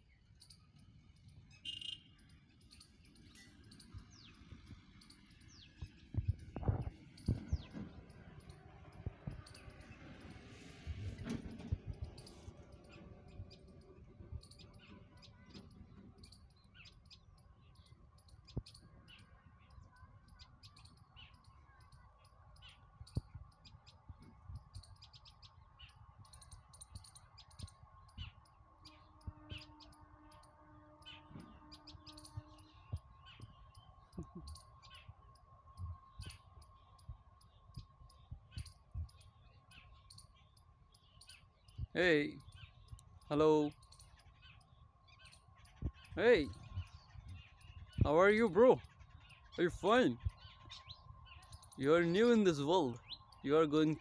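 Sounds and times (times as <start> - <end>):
faint steady tone: 0.0 - 54.0.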